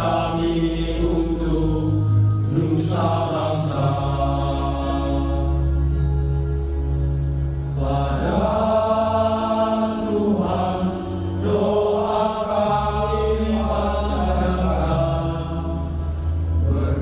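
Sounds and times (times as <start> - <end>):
low bass drone: 0.0 - 17.0
voices singing long notes: 0.0 - 17.0.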